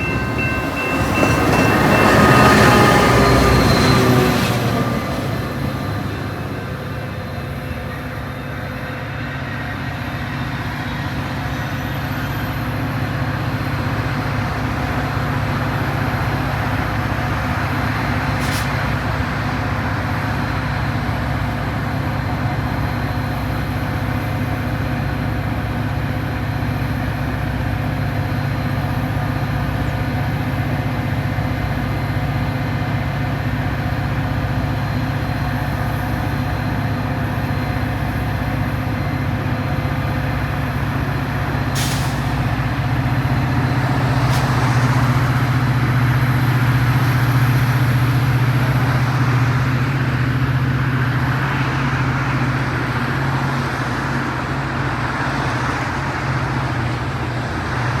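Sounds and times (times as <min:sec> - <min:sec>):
diesel locomotive engine hum: 0:00.0 - 0:58.0.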